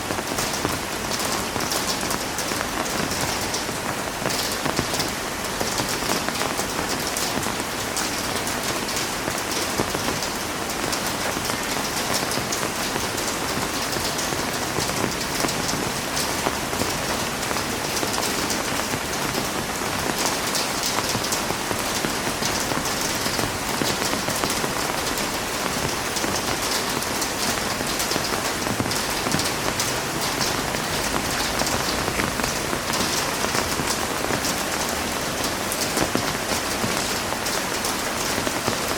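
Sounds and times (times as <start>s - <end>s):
heavy rain on hard surface: 0.0s - 38.9s.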